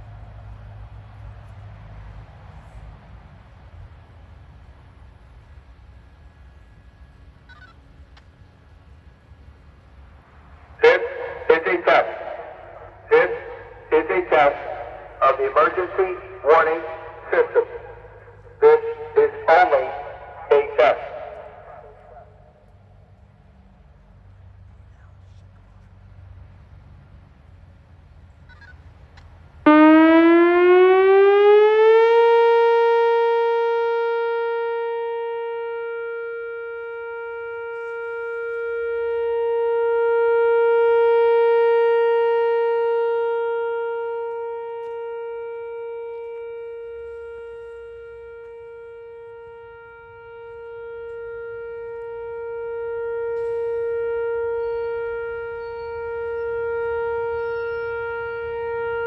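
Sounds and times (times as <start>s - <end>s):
tornado siren steady tone: 0.0s - 59.0s.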